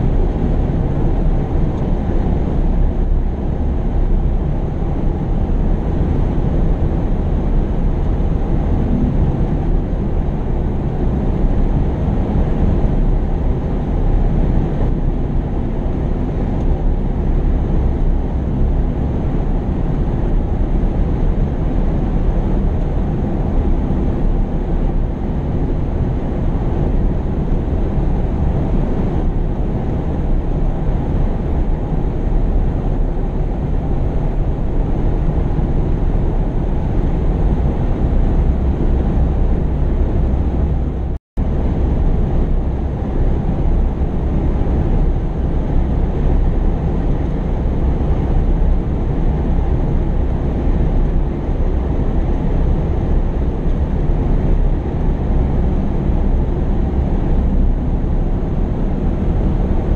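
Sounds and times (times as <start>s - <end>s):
heavy machinery engine droning: 0.0s - 59.9s.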